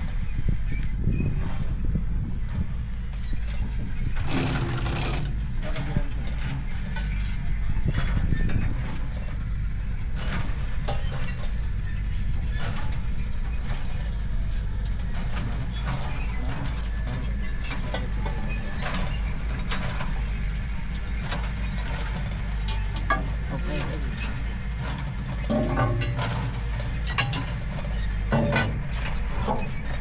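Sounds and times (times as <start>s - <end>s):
engine rumbling: 0.0s - 30.0s.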